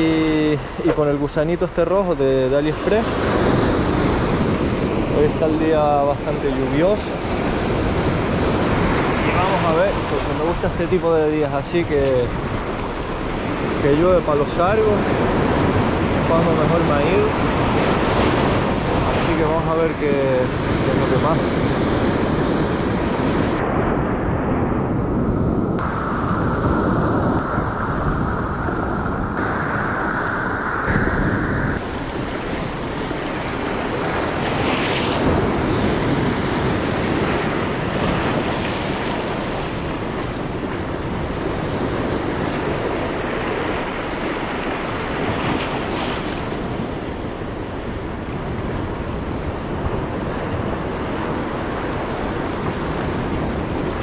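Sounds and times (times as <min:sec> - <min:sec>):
surf breaking over rocks: 0:00.0 - 0:54.0
wind buffeting microphone: 0:00.0 - 0:54.0.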